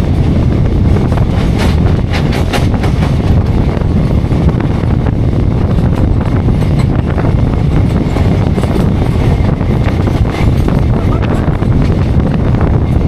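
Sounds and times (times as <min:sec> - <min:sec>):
train wheels rumbling on rails: 0:00.0 - 0:13.0
wind noise on microphone: 0:00.0 - 0:13.0.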